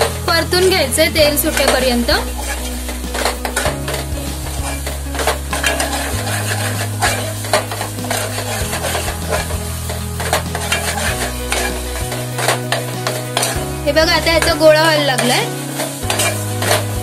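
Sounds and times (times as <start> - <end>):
spoon scraping a metal pot: 0.0 - 13.7, 15.2 - 17.0
background music: 0.0 - 17.0
light sizzle: 0.0 - 17.0.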